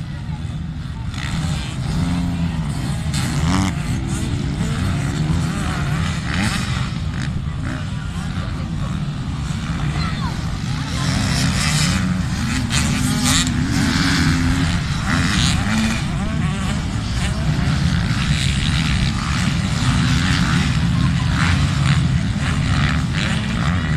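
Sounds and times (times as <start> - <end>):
motorcycle engines revving: 0.0 - 23.9.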